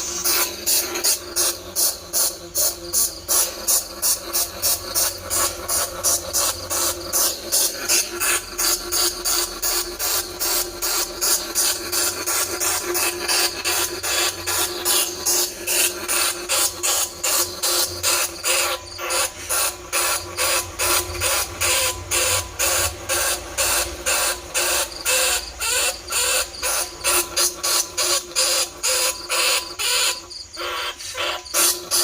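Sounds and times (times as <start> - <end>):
rat squeaks: 0.0 - 32.0.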